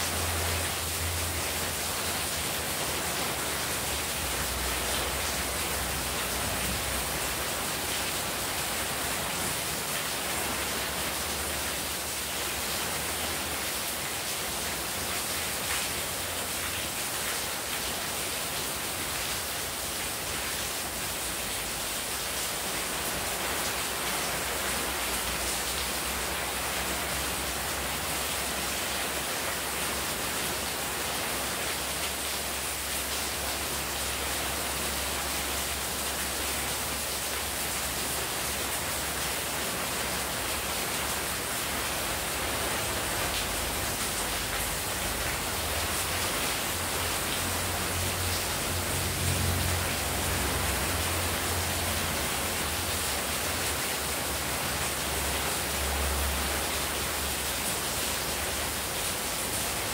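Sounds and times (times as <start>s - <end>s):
heavy rain hissing: 0.0s - 59.9s
runoff splashing onto tiled floor: 0.0s - 59.9s.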